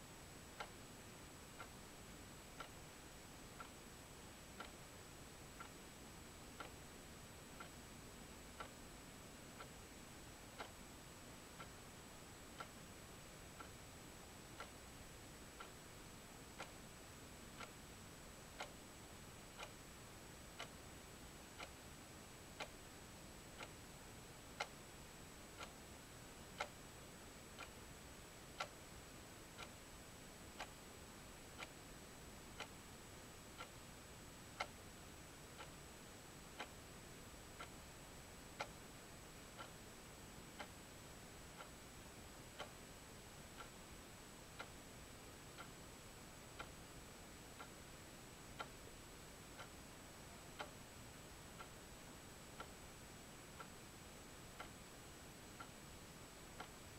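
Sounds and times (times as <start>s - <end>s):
low hiss: 0.0s - 56.9s.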